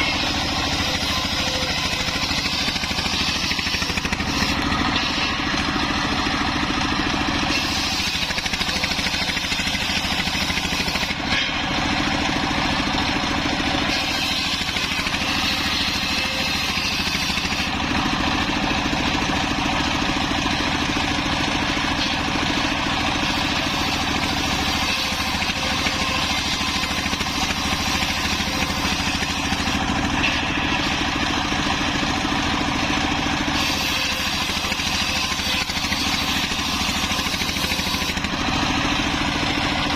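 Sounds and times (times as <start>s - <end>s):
sawmill engine and blade droning: 0.0s - 39.9s.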